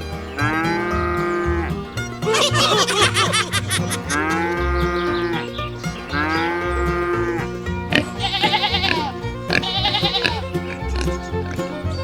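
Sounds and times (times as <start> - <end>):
background music with steady beat: 0.0 - 12.0
moo-like animal calls: 0.4 - 11.6.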